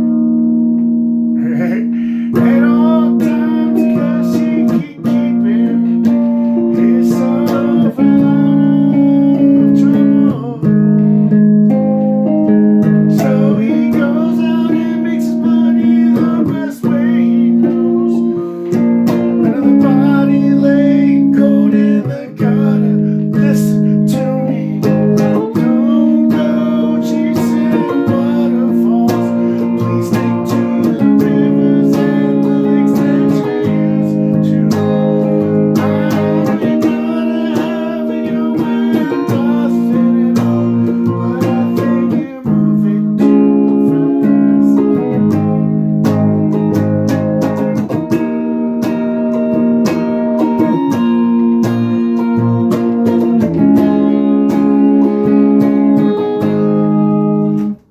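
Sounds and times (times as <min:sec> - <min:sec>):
guitar chords: 0:00.0 - 0:57.9.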